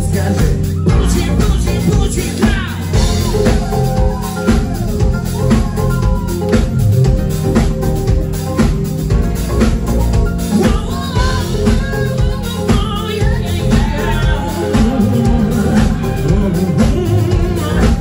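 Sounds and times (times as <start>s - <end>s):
drum kit beat: 0.0s - 18.0s
live pop band playing: 0.0s - 18.0s.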